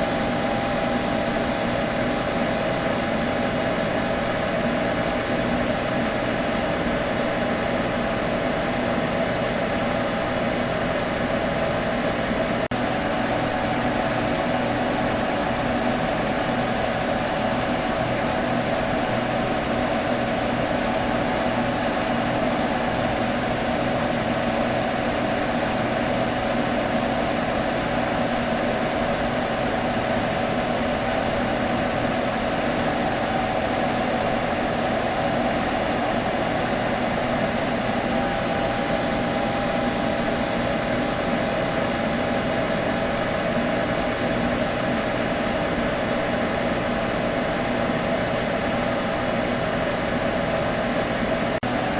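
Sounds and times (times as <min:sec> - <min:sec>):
computer fan whirring: 0:00.0 - 0:51.9.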